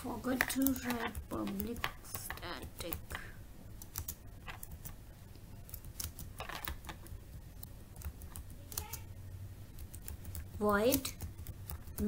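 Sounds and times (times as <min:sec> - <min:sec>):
keyboard typing: 0:00.3 - 0:12.0.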